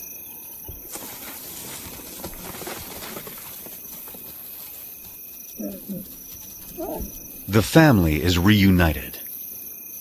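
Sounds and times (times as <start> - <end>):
animals rustling through grass: 0.6 - 8.8.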